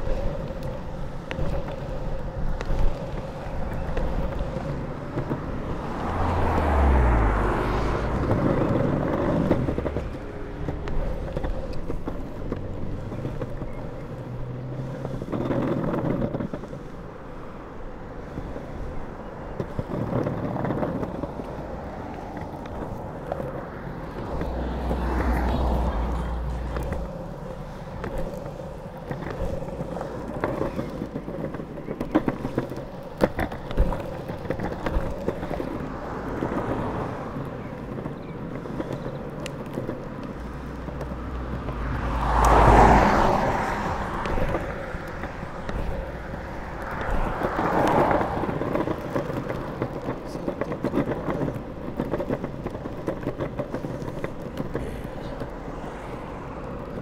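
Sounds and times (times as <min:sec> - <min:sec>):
longboard wheels rumbling on asphalt: 0:00.0 - 0:57.0
vehicle passing: 0:00.0 - 0:57.0
wheels clicking over cracks: 0:00.0 - 0:57.0.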